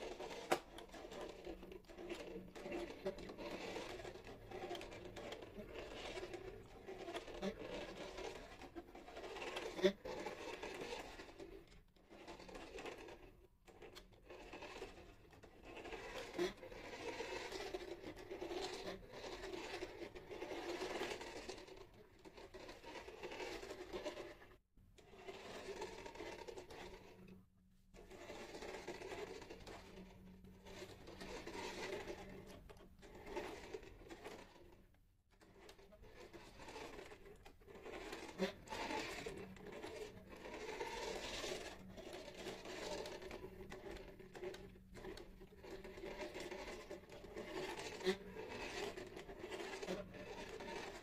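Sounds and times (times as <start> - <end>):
toy motor and gears whirring: 0.0 - 27.2, 28.0 - 34.8, 35.4 - 51.0.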